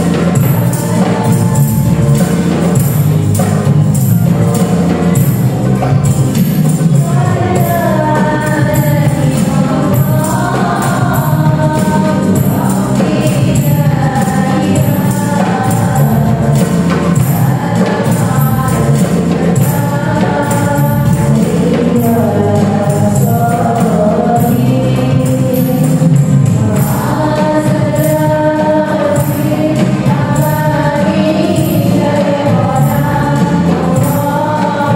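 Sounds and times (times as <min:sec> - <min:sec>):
frame drums with jingles: 0:00.0 - 0:34.9
voices singing together: 0:00.0 - 0:34.9.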